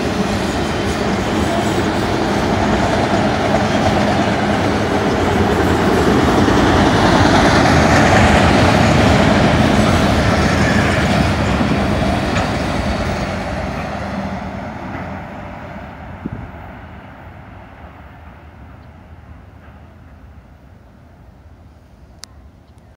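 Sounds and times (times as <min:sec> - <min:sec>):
freight train wheels on rails: 0:00.0 - 0:22.9.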